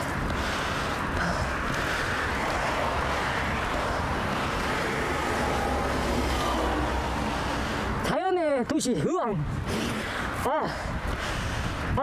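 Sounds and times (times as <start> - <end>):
passing cars: 0.0 - 12.0.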